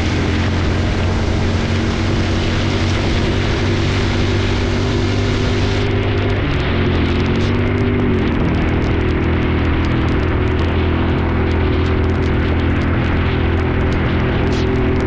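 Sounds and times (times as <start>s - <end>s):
motorcycle engine humming: 0.0s - 15.0s
wind and road noise hiss: 0.0s - 15.0s.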